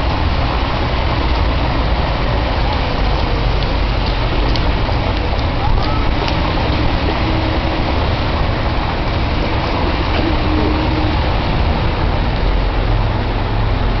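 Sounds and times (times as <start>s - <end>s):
low engine hum: 0.0s - 14.0s
tyres on packed snow and slush: 0.0s - 14.0s.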